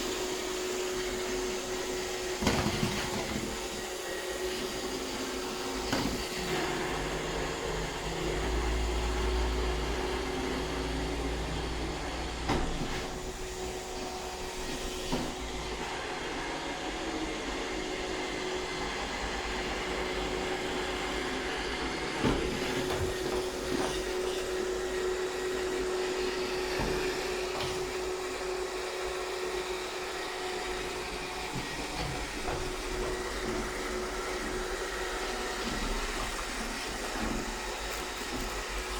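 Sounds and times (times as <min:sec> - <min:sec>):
robot vacuum humming and whirring: 0:00.0 - 0:38.9.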